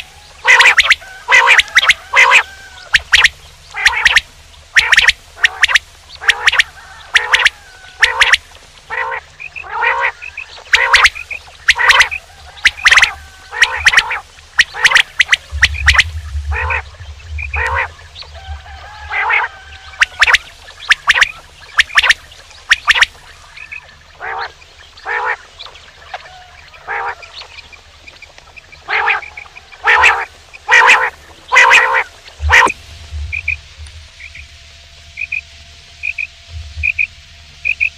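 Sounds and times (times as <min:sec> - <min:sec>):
quail calling: 0:00.0 - 0:33.5
faint low hum: 0:00.0 - 0:37.9.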